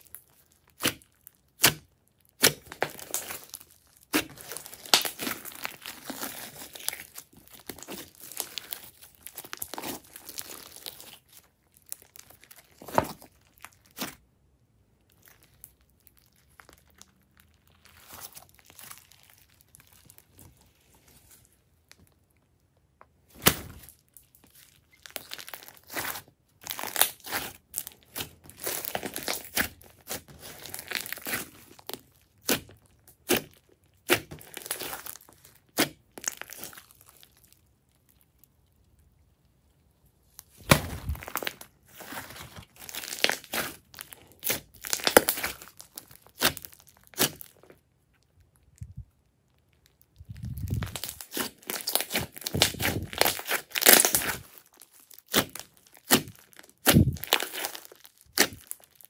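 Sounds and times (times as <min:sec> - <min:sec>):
slime crackling and popping: 0:00.0 - 0:59.0.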